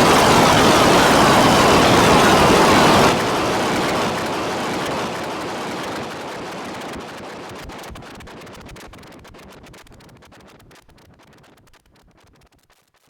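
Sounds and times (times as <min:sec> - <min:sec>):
crackles and clicks: 0:00.0 - 0:13.0.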